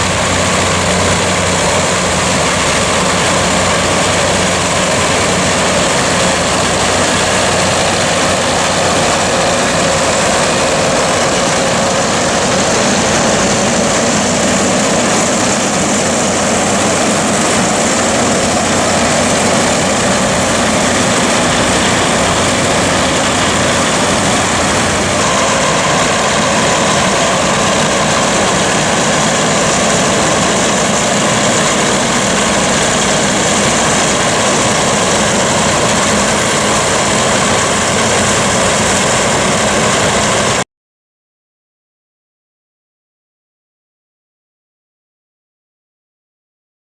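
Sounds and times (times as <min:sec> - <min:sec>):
forage harvester running: 0:00.0 - 0:40.6
high-pitched whine: 0:00.0 - 0:40.6
tractor engine under load: 0:00.0 - 0:40.6.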